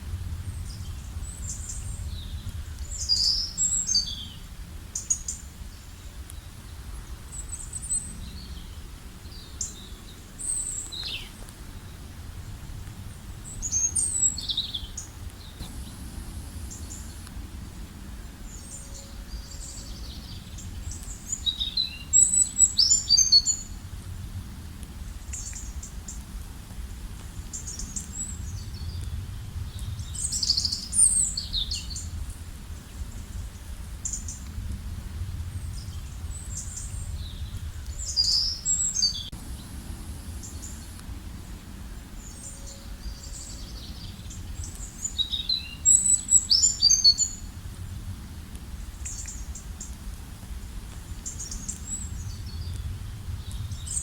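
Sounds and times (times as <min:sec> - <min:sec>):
low background rumble: 0:00.0 - 0:46.5, 0:47.2 - 0:54.0
songbirds chirping: 0:00.1 - 0:54.0.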